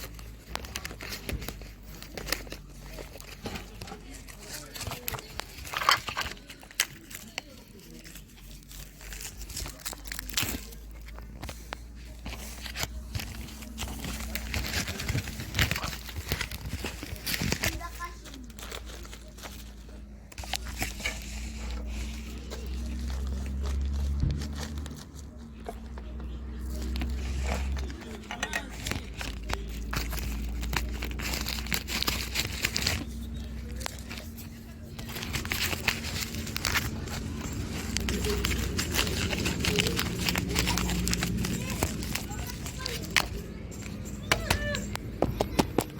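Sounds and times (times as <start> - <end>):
plastic packaging crinkling: 0.0 - 45.9
small clicks and crackles: 0.0 - 45.9.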